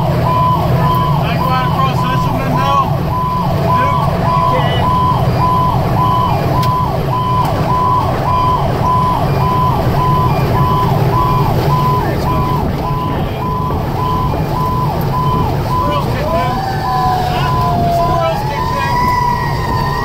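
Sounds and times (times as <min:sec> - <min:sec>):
engine and road rumble: 0:00.0 - 0:20.0
fire engine siren yelping: 0:00.0 - 0:20.0.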